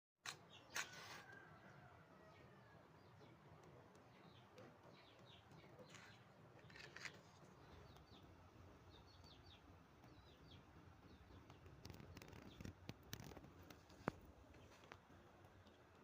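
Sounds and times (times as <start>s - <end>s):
low background noise: 0.2s - 16.0s.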